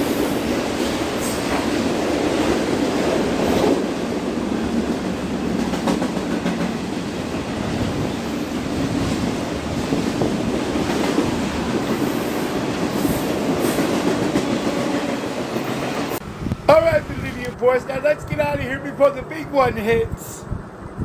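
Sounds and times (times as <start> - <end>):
train rolling past on rails: 0.0 - 21.0.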